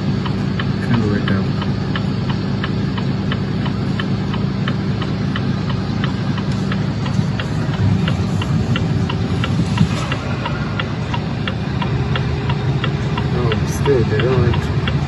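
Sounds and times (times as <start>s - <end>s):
light ticking: 0.0s - 15.0s
vehicle engine idling: 0.0s - 15.0s.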